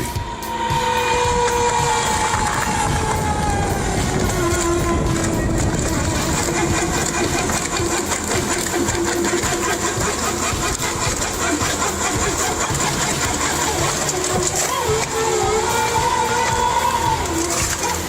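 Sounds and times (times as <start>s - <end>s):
engine running machinery: 0.0s - 18.0s.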